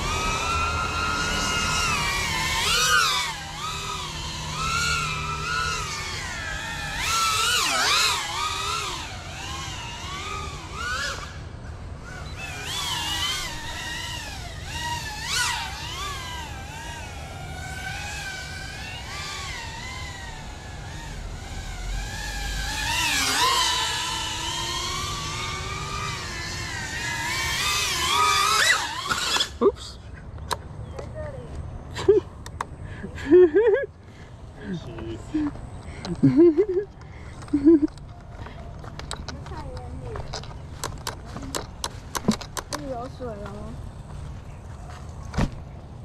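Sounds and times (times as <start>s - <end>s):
drone propellers whining: 0.0s - 46.0s.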